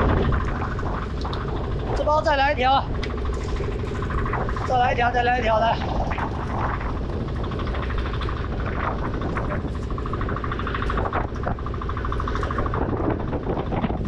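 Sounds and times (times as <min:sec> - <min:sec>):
fast even pulsing: 0:00.0 - 0:14.0
motor running: 0:00.0 - 0:14.0
wind rumbling on microphone: 0:00.0 - 0:14.0.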